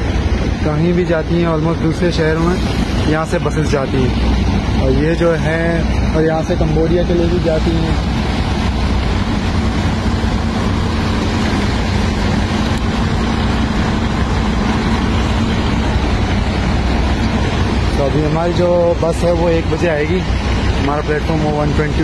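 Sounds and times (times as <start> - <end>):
bus engines idling: 0.0 - 22.0.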